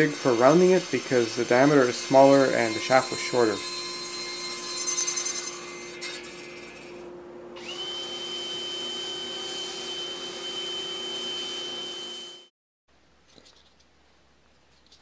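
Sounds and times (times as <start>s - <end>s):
cordless drill motor whine: 0.0s - 12.5s.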